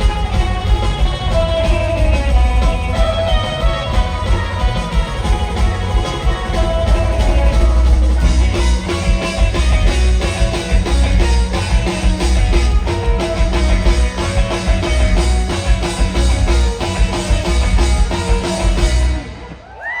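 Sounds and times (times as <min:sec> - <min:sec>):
rock band playing instrumental: 0:00.0 - 0:20.0.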